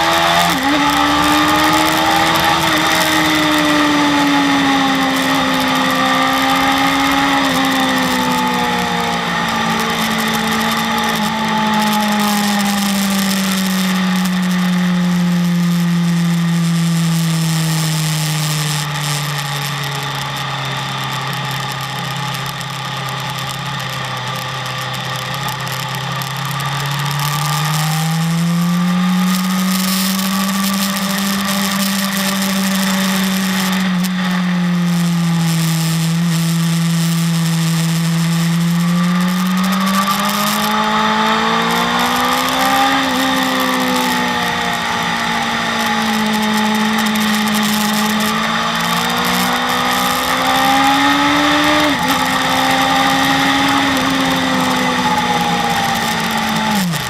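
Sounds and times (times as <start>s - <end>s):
motorcycle engine running hard: 0.0s - 57.0s.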